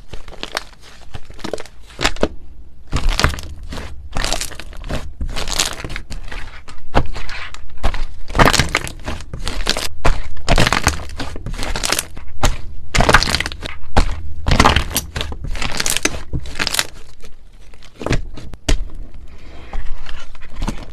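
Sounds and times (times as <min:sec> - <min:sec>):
slime crackling and crunching: 0:00.0 - 0:02.3, 0:02.9 - 0:19.0.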